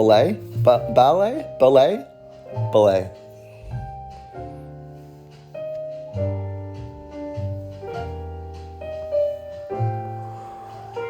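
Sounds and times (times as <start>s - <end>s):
piano chords over low bass: 0.0s - 11.0s.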